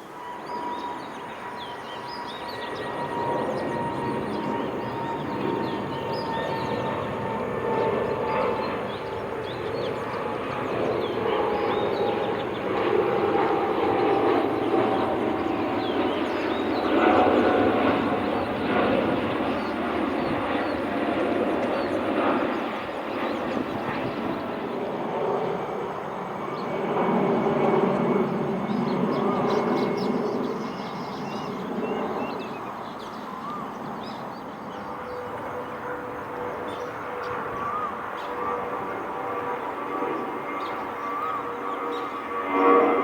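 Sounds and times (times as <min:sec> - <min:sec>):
jet engines roaring on takeoff: 0:00.0 - 0:43.0.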